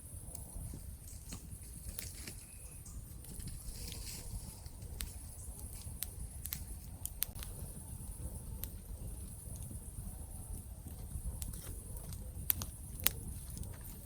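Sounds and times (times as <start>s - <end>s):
campfire crackles and pops: 0.0s - 14.0s
low rumble of flames: 0.0s - 14.0s.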